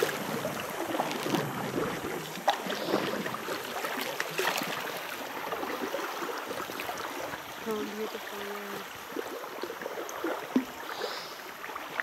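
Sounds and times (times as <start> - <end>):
river water swishing and gurgling: 0.0 - 12.0.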